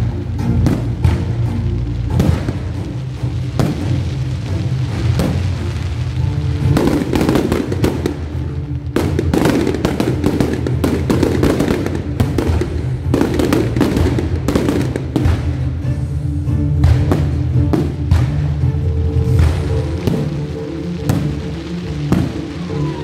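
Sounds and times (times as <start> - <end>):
fireworks bursting and crackling: 0.0 - 23.0
music with low tones: 0.0 - 23.0.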